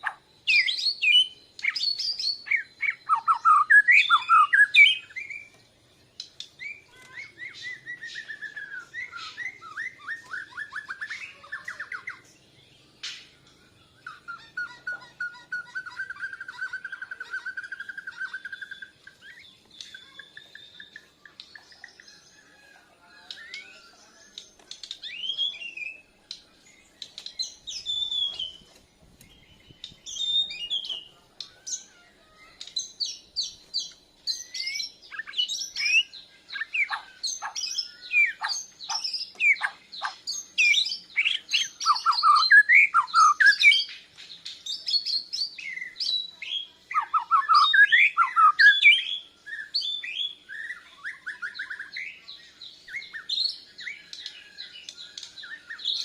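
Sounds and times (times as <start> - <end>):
bird singing whistled song: 0.0 - 56.0.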